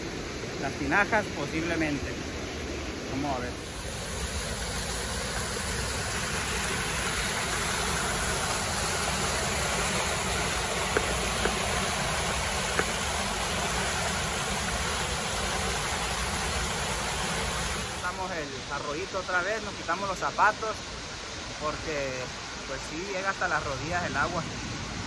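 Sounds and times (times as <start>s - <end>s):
creek water rushing over rocks: 0.0s - 25.0s.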